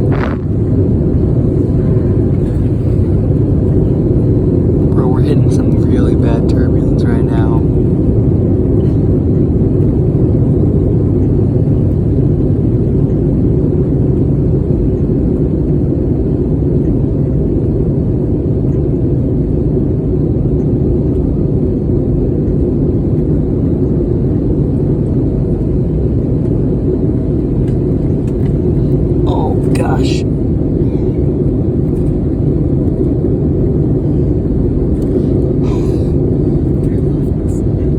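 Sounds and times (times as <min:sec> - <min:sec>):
aircraft cabin engine rumble: 0:00.0 - 0:37.9.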